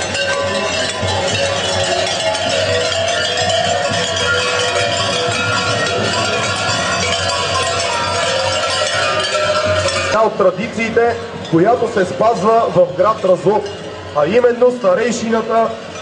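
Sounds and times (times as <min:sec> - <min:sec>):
large metal bells clanging: 0:00.0 - 0:16.0.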